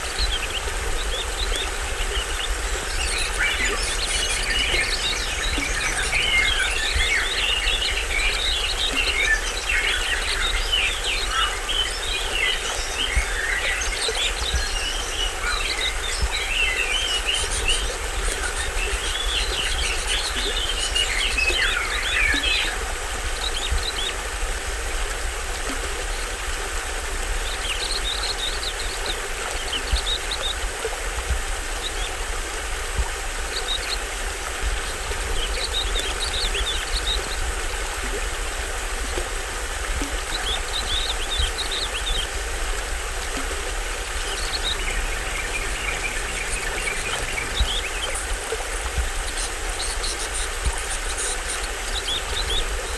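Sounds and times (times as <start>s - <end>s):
birds chirping: 0.0s - 24.3s, 33.4s - 52.9s
small waterfall rushing: 0.0s - 52.9s.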